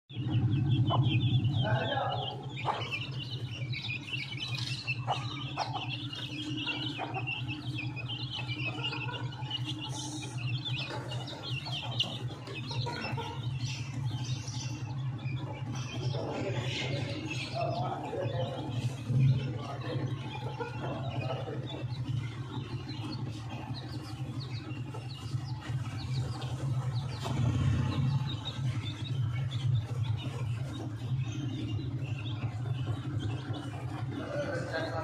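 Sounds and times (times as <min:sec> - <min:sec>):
chicks peeping: 0:00.1 - 0:35.0
steady low hum: 0:00.1 - 0:35.0.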